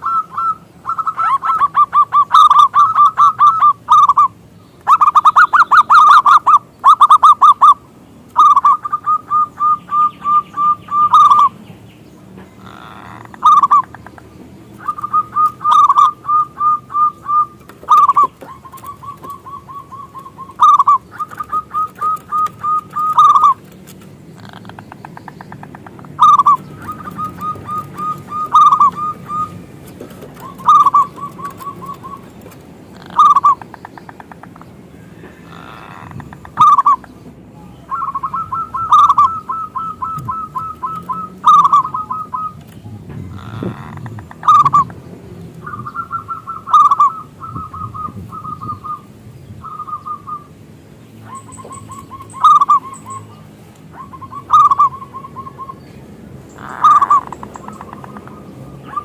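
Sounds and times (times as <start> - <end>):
dove cooing song: 0.0 - 11.6, 12.5 - 50.6, 51.2 - 59.0.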